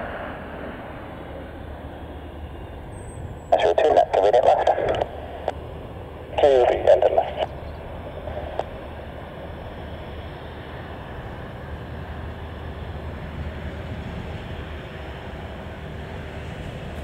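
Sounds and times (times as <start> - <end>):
distant jet engines idling: 0.0 - 17.0.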